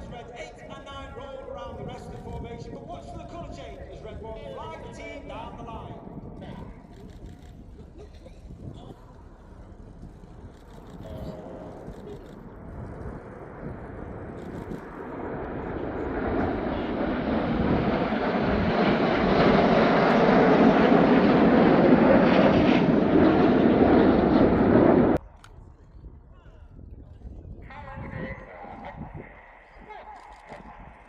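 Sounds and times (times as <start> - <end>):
jet engines roaring past: 0.0 - 31.0.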